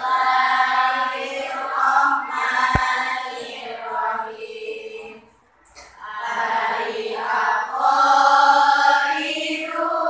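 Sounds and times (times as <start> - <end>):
girls chanting in unison: 0.0 - 10.0.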